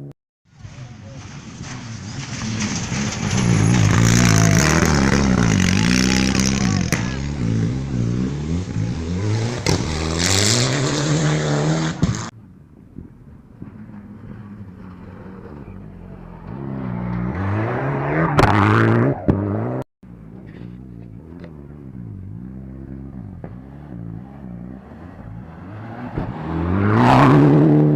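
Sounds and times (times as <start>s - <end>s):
rally car engines revving: 0.6s - 12.3s, 13.5s - 27.9s.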